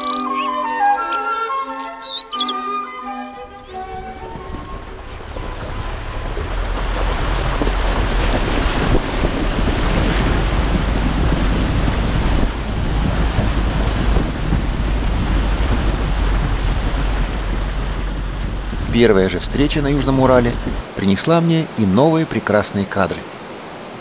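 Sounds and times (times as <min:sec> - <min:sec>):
water surging and splashing: 0:02.8 - 0:24.0.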